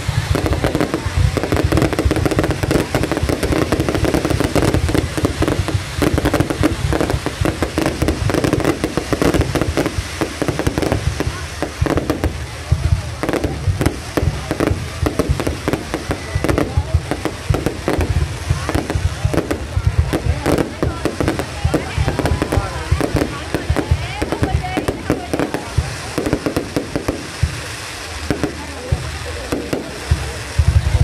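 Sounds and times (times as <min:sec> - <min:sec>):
fireworks bursts and crackling: 0:00.0 - 0:31.0.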